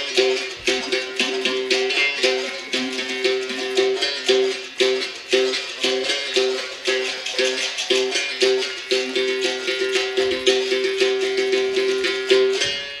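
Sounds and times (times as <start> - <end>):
musical bow struck in rhythm: 0.0 - 13.0.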